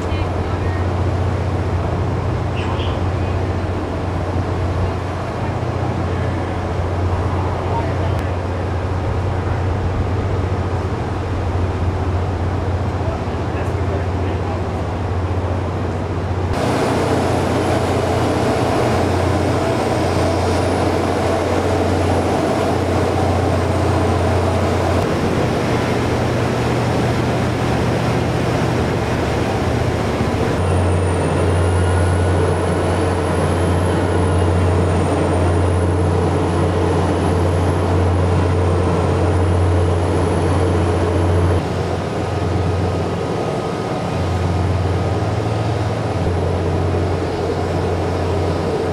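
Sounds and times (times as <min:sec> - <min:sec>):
deep hum of heavy machinery: 0:00.0 - 0:48.9.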